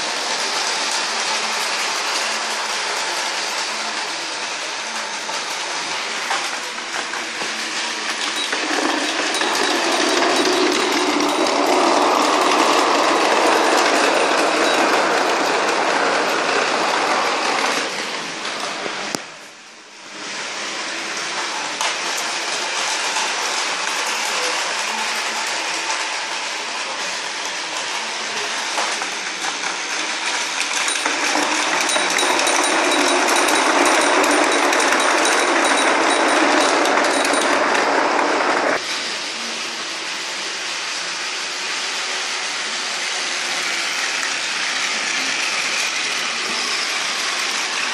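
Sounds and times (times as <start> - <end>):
toy train motor whirring: 0.0 - 18.7, 20.2 - 47.9
wheels rattling on plastic track: 0.0 - 19.2, 20.6 - 40.5, 41.3 - 47.9.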